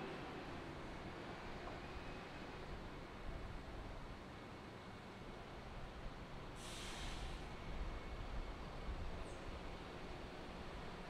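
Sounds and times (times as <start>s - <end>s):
city traffic rumble on wet streets: 0.0s - 11.0s.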